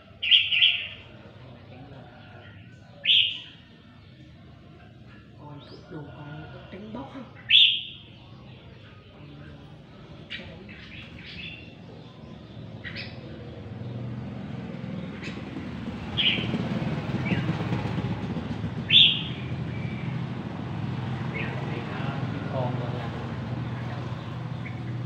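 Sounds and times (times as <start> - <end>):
birds singing: 0.0 - 25.0.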